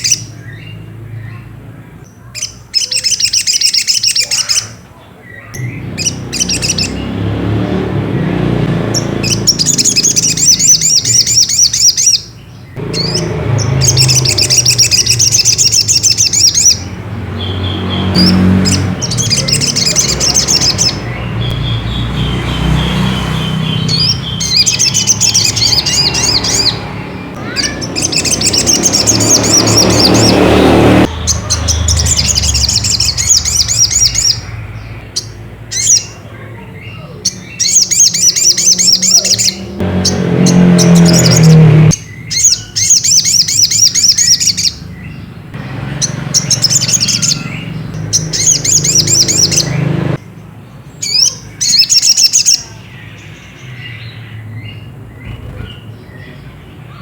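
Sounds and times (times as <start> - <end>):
bird high chattering calls: 0.0 - 50.3, 51.0 - 57.0.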